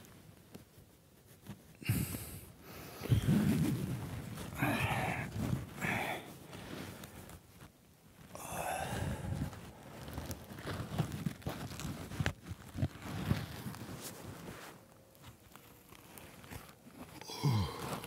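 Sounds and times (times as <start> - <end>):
sleeping bag rustling: 0.0 - 18.0
soft bumps and crunches: 3.0 - 18.0.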